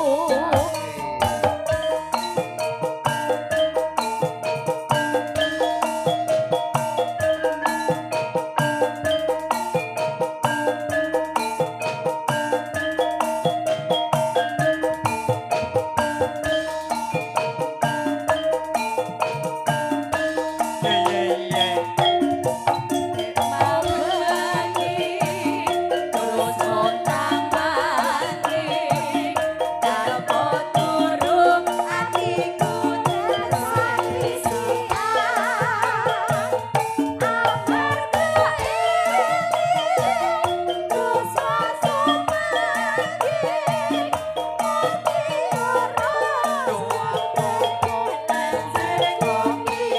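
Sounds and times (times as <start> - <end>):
live gamelan band music: 0.0 - 49.9
wavering vibrato melody: 0.0 - 49.9.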